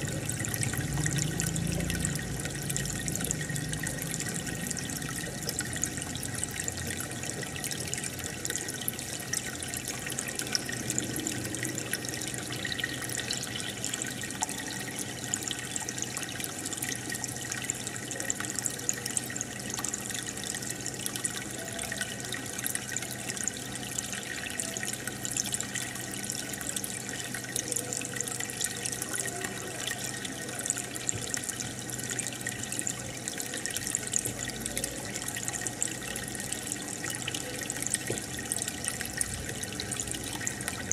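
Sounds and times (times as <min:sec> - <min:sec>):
air bubbles in water: 0:00.0 - 0:40.9.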